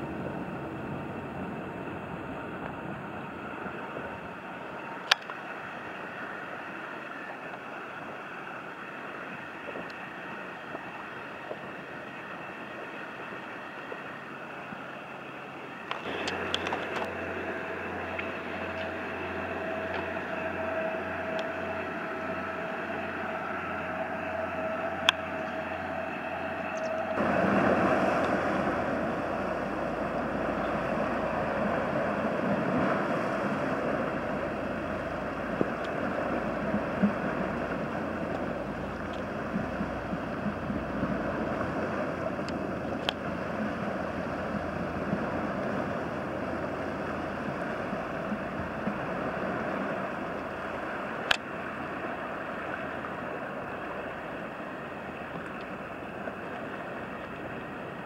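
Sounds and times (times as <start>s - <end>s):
distant ship engine humming: 0.0s - 58.0s.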